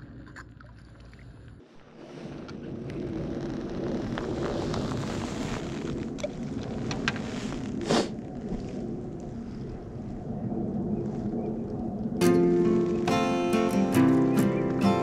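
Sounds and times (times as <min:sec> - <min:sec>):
wind buffeting microphone: 0:01.9 - 0:15.0.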